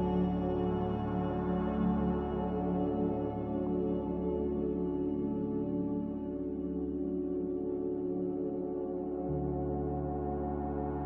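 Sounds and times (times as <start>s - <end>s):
droning background music: 0.0s - 11.0s.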